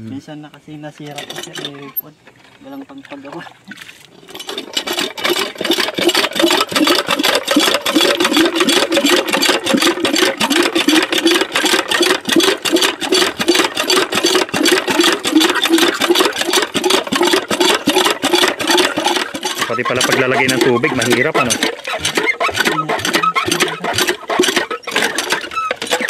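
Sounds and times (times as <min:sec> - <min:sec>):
water pump engine running: 0:02.7 - 0:26.0.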